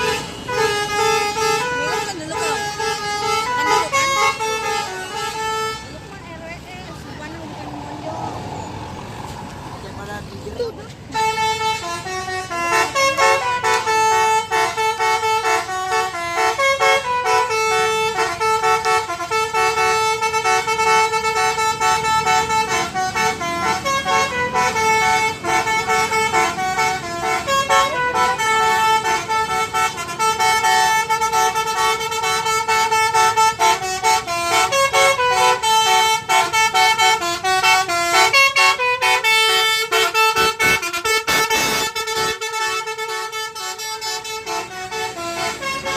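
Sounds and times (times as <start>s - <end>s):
bus horn playing a tune: 0.0s - 7.4s, 11.0s - 45.9s.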